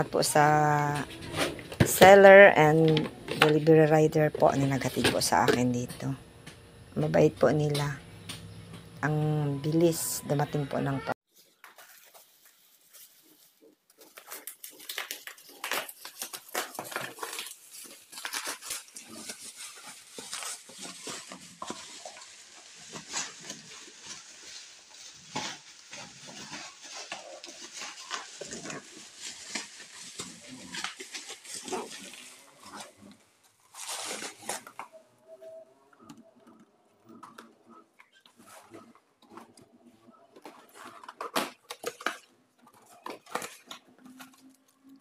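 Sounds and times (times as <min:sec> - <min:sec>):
plastic and bubble wrap crinkling: 0:00.0 - 0:06.2, 0:09.3 - 0:45.0.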